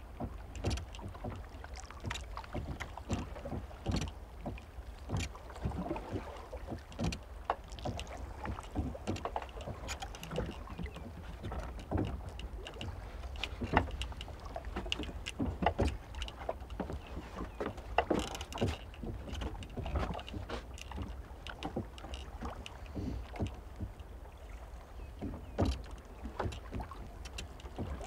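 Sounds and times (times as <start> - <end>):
knocks and splashes: 0.0 - 28.0
waves lapping against boat hull: 0.0 - 28.0.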